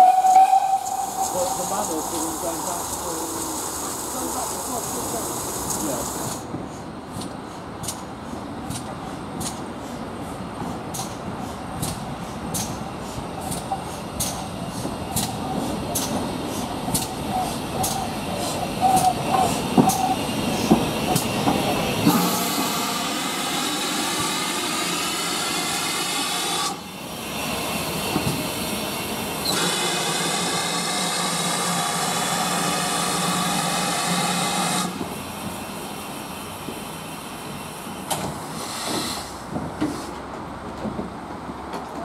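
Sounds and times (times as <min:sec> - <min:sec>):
steam hissing: 0:00.0 - 0:06.5, 0:10.7 - 0:40.1
steam locomotive wheels clanking: 0:00.0 - 0:26.8, 0:27.7 - 0:42.0.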